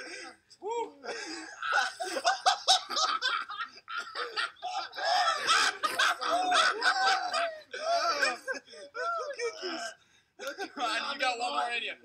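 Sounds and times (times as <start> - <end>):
people laughing hard: 0.0 - 9.8.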